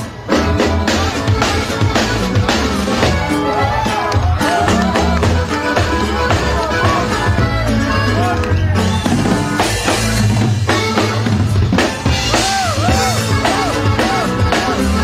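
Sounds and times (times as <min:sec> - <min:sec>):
bass: 0:00.0 - 0:15.0
button accordion melody: 0:00.0 - 0:15.0
drum kit: 0:00.0 - 0:15.0.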